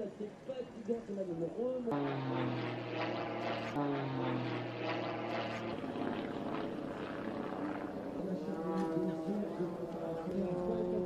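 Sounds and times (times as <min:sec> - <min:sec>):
propeller plane engine droning: 0:01.9 - 0:11.0.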